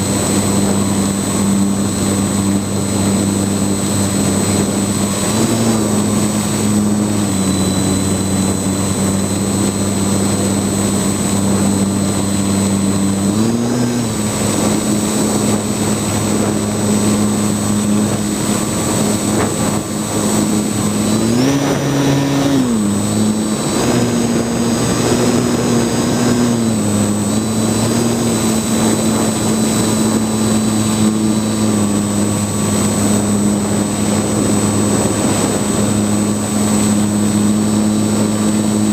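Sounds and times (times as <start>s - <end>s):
drone motors humming: 0.0s - 38.9s
rushing wind: 0.0s - 38.9s.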